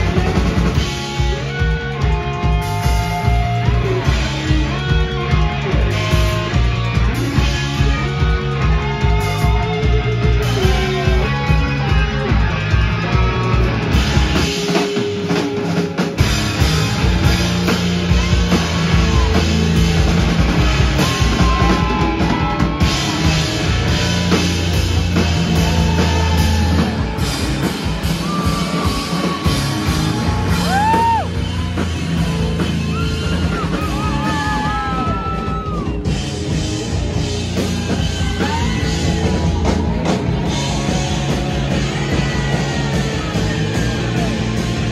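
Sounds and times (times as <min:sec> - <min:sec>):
distorted electric guitars: 0:00.0 - 0:44.9
drum kit: 0:00.0 - 0:44.9.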